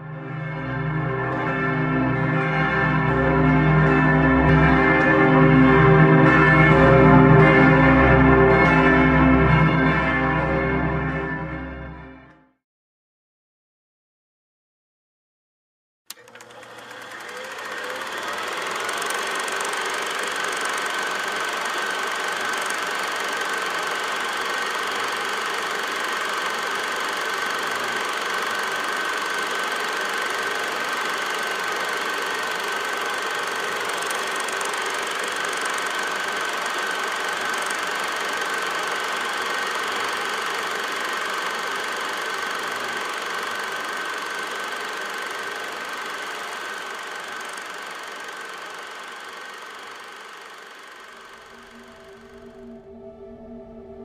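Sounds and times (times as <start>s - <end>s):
machine drone with high hum: 0.0s - 12.2s, 16.2s - 54.0s.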